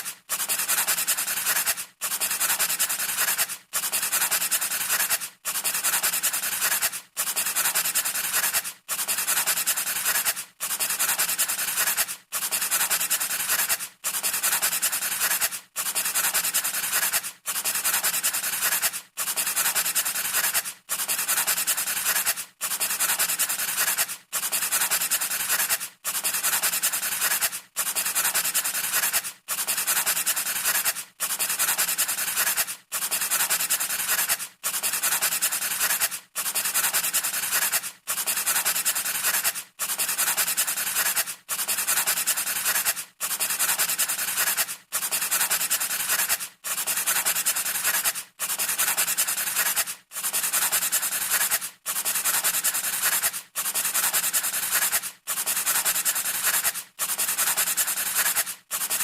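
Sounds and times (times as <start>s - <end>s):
scratchy sanding strokes: 0.0s - 59.0s.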